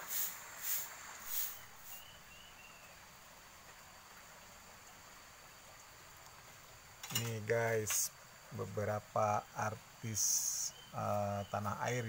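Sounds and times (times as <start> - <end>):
insect drone: 0.0 - 12.0
soft hiss: 0.0 - 12.0.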